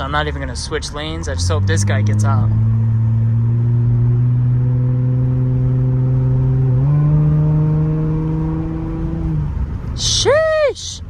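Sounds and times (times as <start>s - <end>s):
car exhaust droning: 0.0s - 11.0s.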